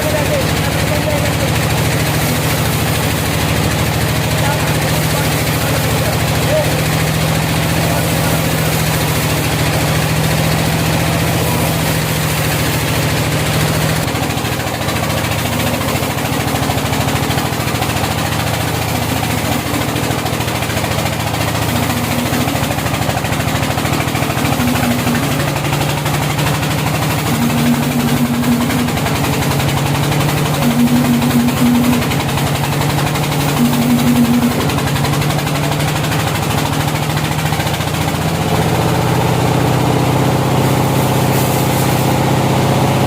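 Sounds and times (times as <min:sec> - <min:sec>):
sawmill engine running: 0:00.0 - 0:43.0.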